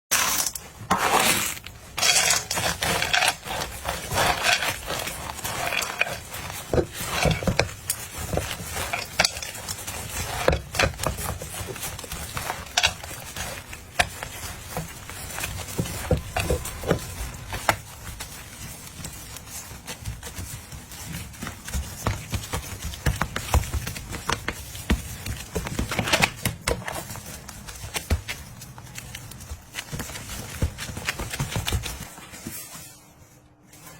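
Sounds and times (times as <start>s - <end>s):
fruit crunching and scraping: 0.1s - 33.9s.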